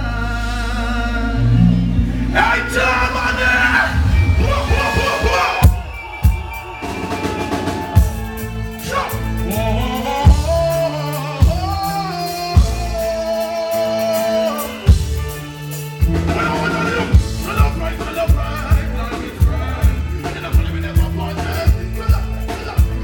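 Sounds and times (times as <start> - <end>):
reggae band playing: 0.0 - 23.0.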